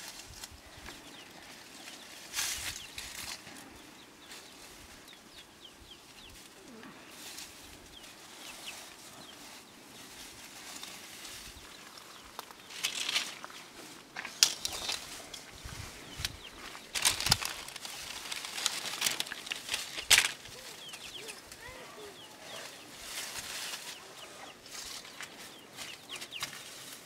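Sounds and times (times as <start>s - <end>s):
dry straw rustling: 0.0s - 27.0s.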